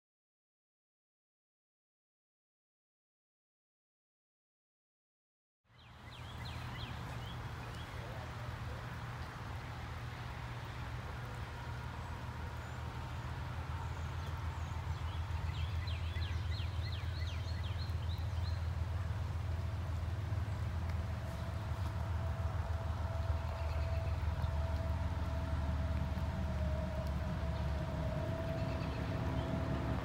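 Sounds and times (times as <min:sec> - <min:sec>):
songbird chirping: 0:05.7 - 0:30.0
distant diesel locomotive rumble: 0:05.8 - 0:30.0.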